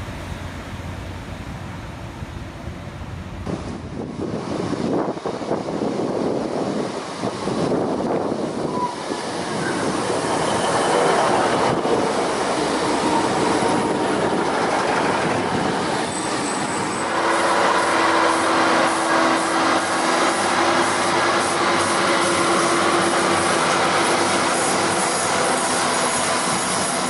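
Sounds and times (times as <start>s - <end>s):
diesel train engines: 0.0s - 27.0s
train wheels on rails: 0.0s - 27.0s.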